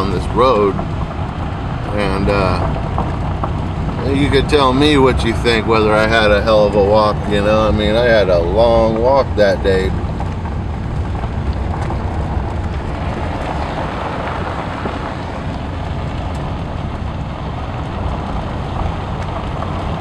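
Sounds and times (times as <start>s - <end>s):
car engine running: 0.0s - 20.0s
tyres rolling on rough road: 0.0s - 20.0s.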